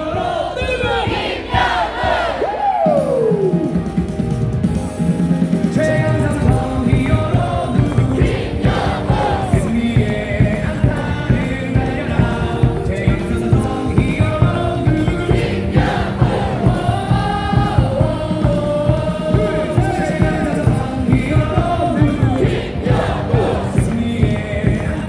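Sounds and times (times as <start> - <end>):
crowd singing a cheer song: 0.0 - 3.6, 5.6 - 25.0
loud amplified music with driving beat: 0.0 - 25.0.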